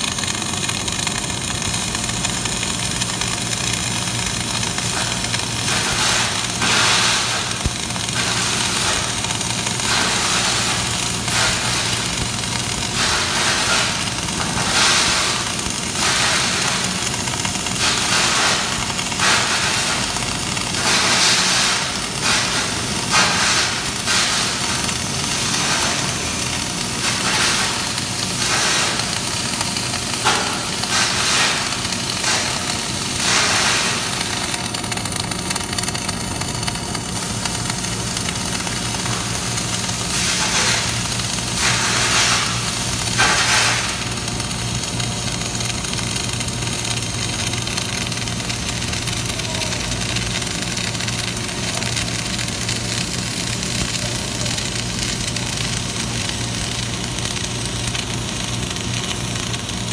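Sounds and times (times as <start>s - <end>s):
welding arc crackling and hissing: 0.0s - 59.9s.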